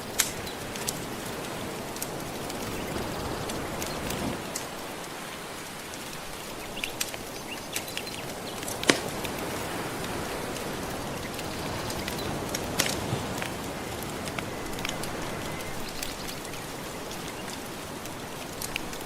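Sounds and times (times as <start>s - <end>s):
ocean waves washing: 0.0s - 19.0s
wood fire crackling: 0.0s - 19.0s.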